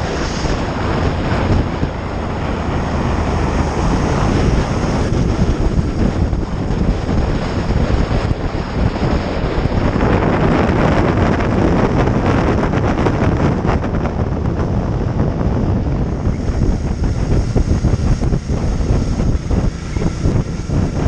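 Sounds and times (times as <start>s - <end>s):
motorcycle running noise: 0.0s - 21.0s
wind rushing over microphone: 0.0s - 21.0s.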